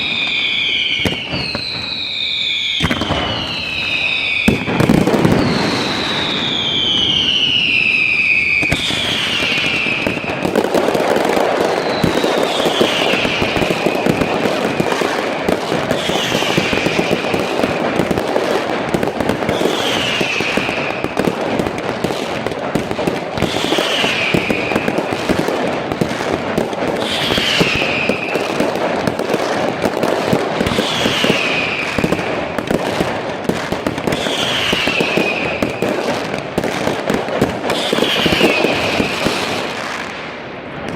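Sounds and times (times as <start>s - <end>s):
falling firework whistle: 0.0s - 21.4s, 23.4s - 25.6s, 26.9s - 33.1s, 33.8s - 36.3s, 37.4s - 40.9s
fireworks crackling and popping: 0.0s - 40.9s.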